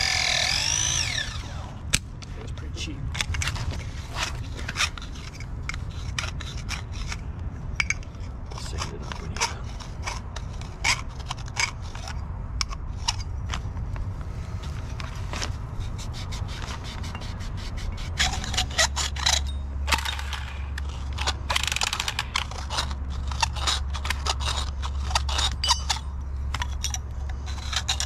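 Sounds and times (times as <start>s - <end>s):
metallic clicks and scrapes: 0.0s - 28.0s
steady low rumble: 0.0s - 28.0s.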